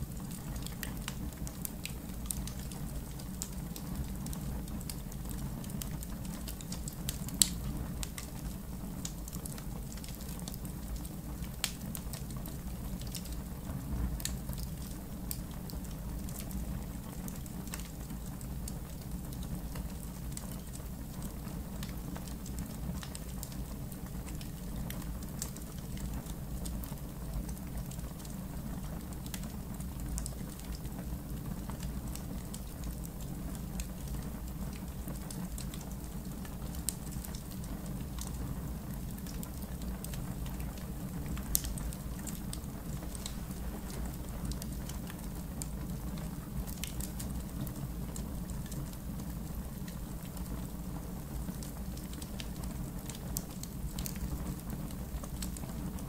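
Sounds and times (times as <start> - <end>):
campfire crackling and popping: 0.1 - 56.0.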